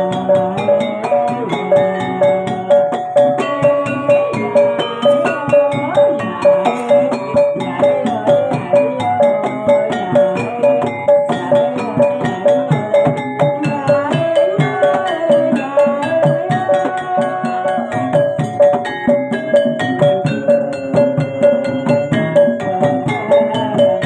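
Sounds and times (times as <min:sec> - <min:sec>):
drums beating: 0:00.0 - 0:24.0
ringing metal percussion: 0:00.0 - 0:24.0.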